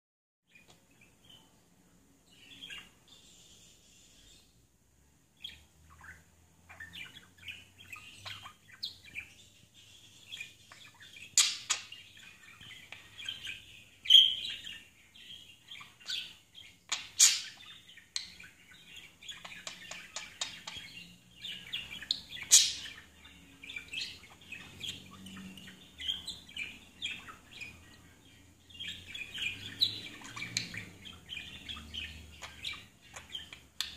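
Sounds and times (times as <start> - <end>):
budgerigar chirping: 2.4 - 3.0, 5.4 - 33.9.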